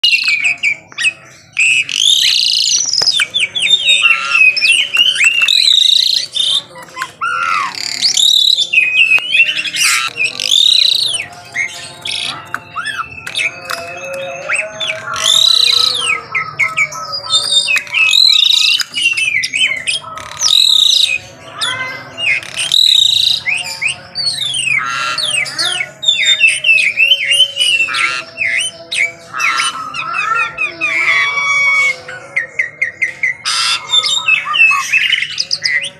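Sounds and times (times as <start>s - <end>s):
starling singing: 0.0s - 35.9s.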